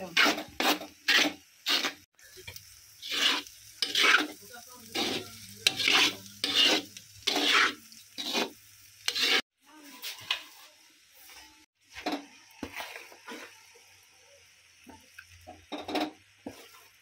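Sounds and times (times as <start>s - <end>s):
metal spatula scraping a wok: 0.0s - 13.8s, 15.7s - 17.0s
food sizzling: 0.0s - 17.0s.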